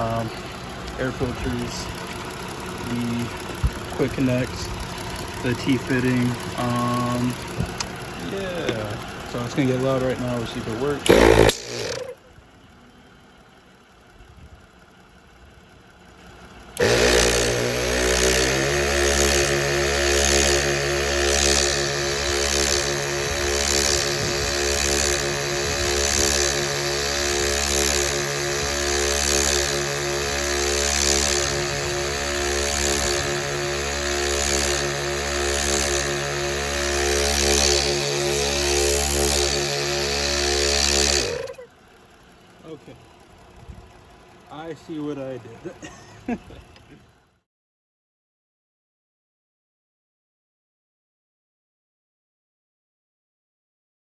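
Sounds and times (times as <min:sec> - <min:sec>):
air compressor running: 0:00.0 - 0:12.3, 0:14.7 - 0:46.6.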